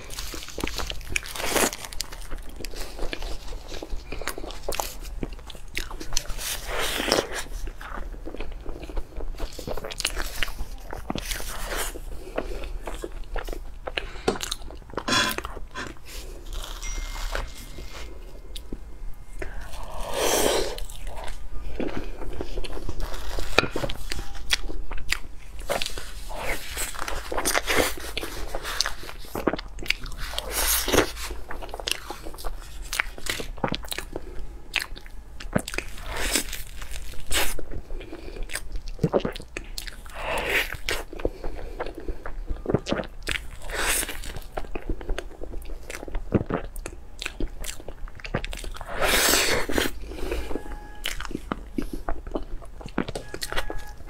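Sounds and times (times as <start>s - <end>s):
chewing seafood with cracks: 0.0s - 54.0s.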